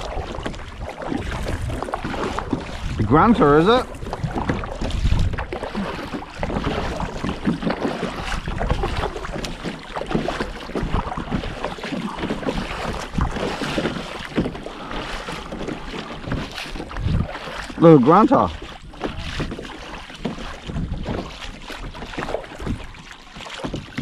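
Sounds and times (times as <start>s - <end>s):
wind on microphone: 0.0s - 17.8s, 18.4s - 23.0s
paddle splashing: 0.0s - 24.0s
water washing along hull: 0.0s - 24.0s.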